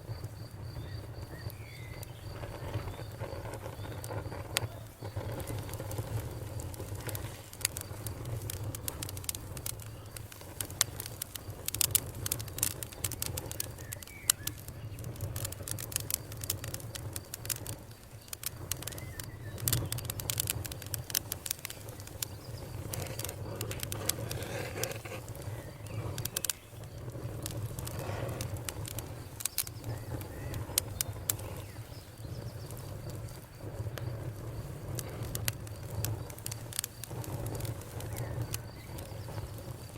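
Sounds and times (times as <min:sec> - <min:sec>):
campfire crackling and popping: 0:00.0 - 0:39.9
low rumble of burning: 0:00.0 - 0:39.9.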